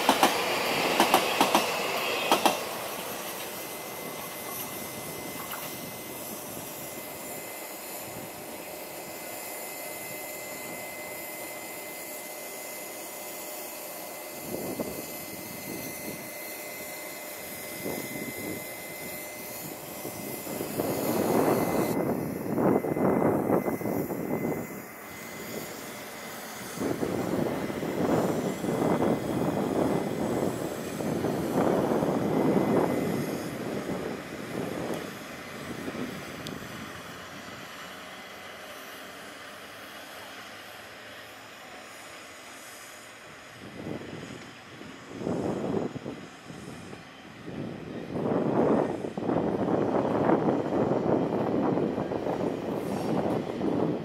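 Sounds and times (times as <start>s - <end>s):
locomotive running noise: 0.0s - 54.0s
mechanical hum with high whine: 0.0s - 54.0s.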